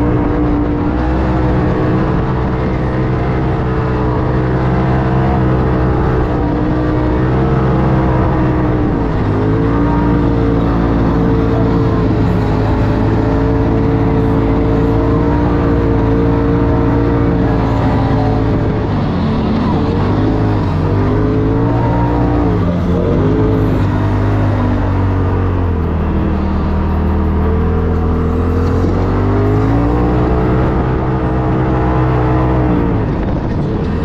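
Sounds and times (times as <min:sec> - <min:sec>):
engine pulling under load: 0:00.0 - 0:34.0.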